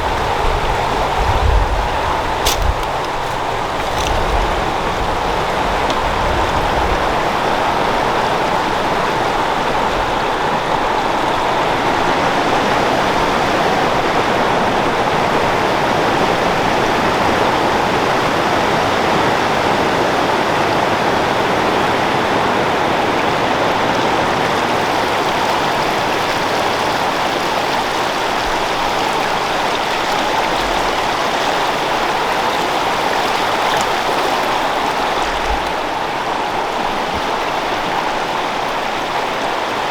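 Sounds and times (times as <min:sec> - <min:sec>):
creek water flowing over rocks: 0:00.0 - 0:20.1, 0:20.9 - 0:39.9.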